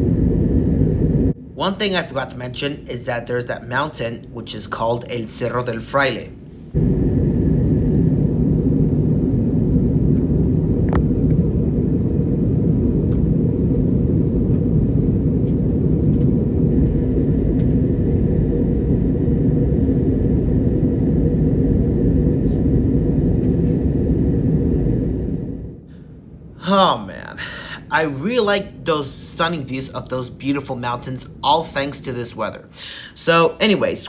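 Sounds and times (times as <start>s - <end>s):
aircraft cabin engine rumble: 0.0s - 3.6s, 6.3s - 33.4s.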